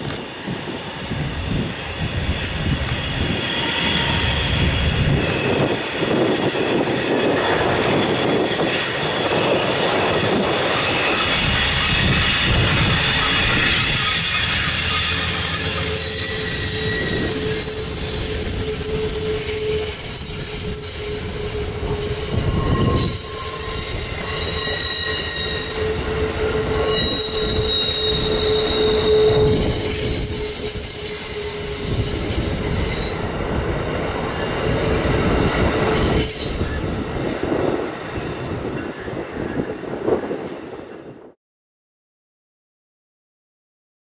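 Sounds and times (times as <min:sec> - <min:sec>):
train wheels squealing: 0:00.0 - 0:39.7
rumble of train: 0:00.0 - 0:41.4.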